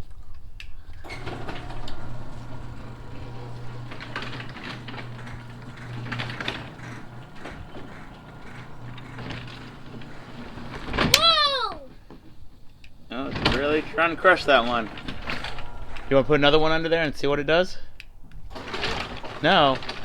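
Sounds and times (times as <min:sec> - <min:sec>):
garage door motor hum: 0:00.8 - 0:20.0
garage door rattling: 0:00.8 - 0:20.0.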